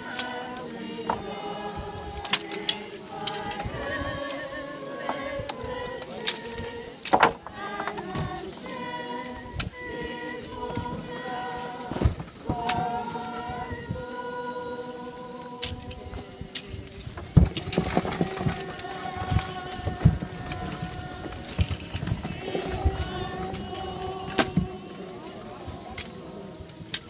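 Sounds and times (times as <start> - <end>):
crowd singing together: 0.0 - 27.0.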